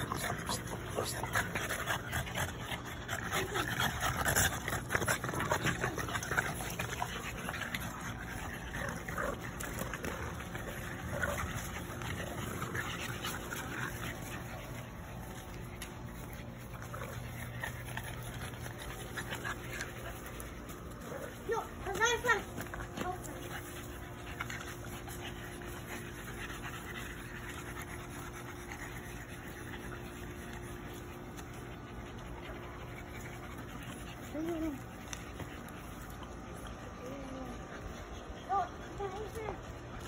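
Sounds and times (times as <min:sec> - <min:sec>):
dogs making small noises: 0:00.0 - 0:40.0.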